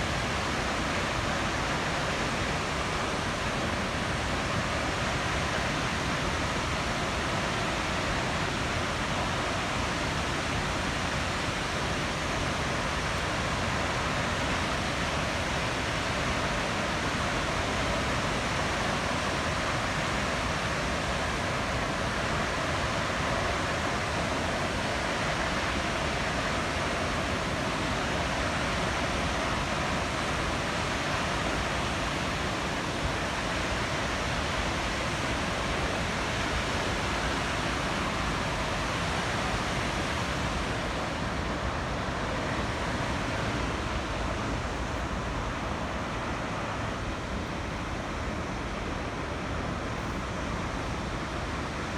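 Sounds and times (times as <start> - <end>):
water rushing from a dam: 0.0 - 51.9.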